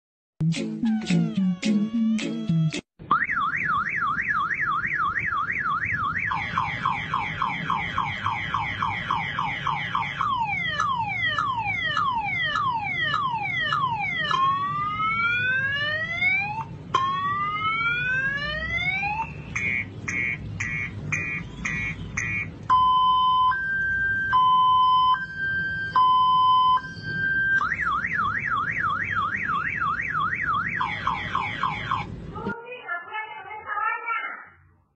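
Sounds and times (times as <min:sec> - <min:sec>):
motorcycle alarm cycling tones: 0:03.1 - 0:32.1.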